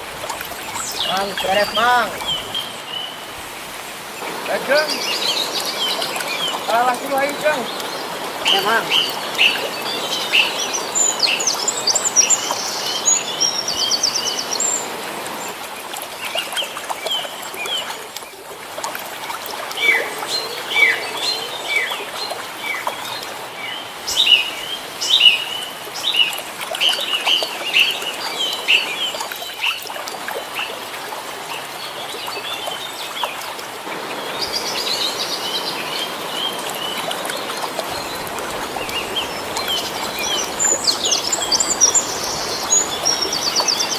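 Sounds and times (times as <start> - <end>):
steady outdoor hiss: 0.0 - 43.9
small birds chirping: 0.6 - 18.4, 19.7 - 30.9, 31.5 - 43.9.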